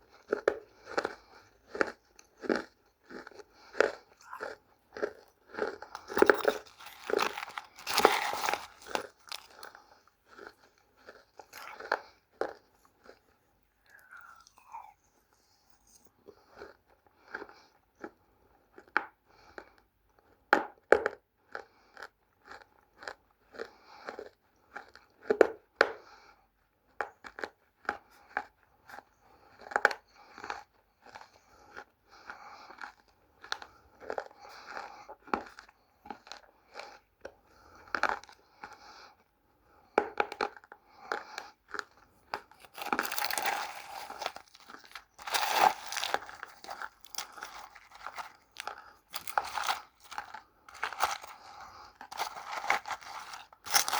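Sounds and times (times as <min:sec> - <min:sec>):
dry clay crunching when chewed: 0:00.0 - 0:26.3, 0:26.9 - 0:53.9.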